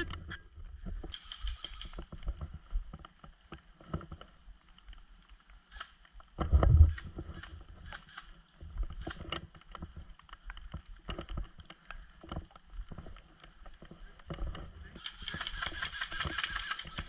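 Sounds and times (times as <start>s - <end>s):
gear clicks and knocks: 0.0s - 17.0s.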